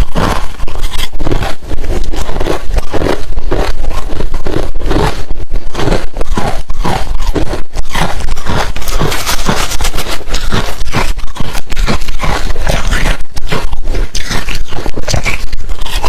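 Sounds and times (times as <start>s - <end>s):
chewing crunchy ice: 0.0s - 16.0s.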